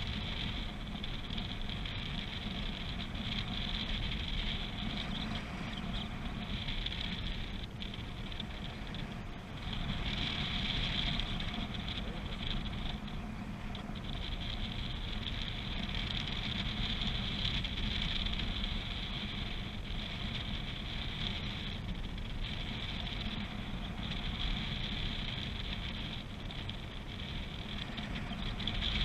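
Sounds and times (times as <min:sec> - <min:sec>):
airflow rushing over camera: 0:00.0 - 0:29.0.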